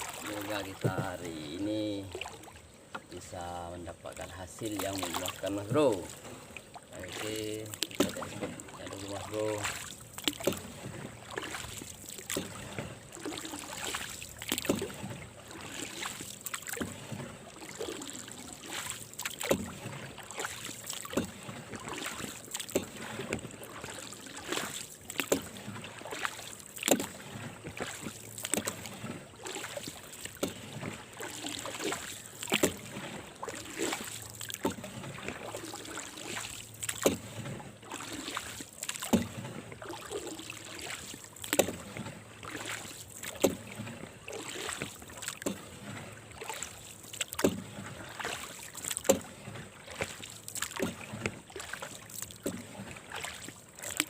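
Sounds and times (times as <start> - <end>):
paddle splashing in water: 0.0 - 54.0
wash of moving water: 0.0 - 54.0.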